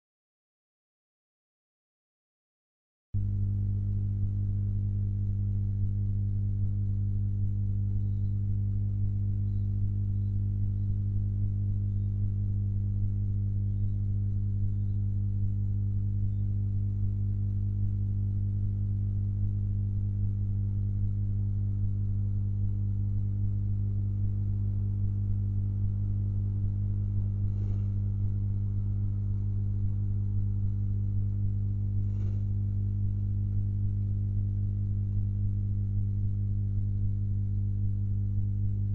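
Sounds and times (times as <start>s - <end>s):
electrical mains hum: 3.2s - 38.9s.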